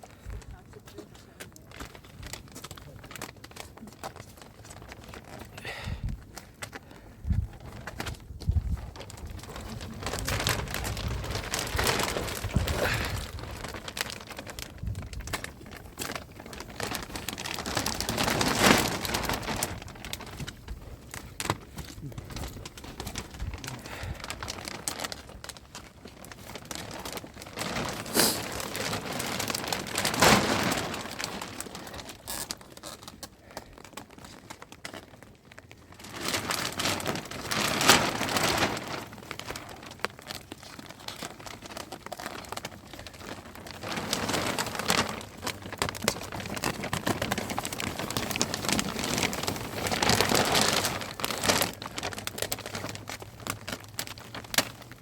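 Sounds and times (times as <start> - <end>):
rain patter: 0.0 - 55.0.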